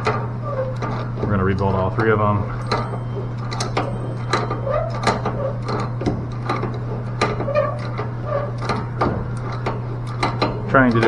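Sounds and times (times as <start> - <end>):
hand tools clicking on metal: 0.0 - 11.0
steady low hum: 0.0 - 11.0.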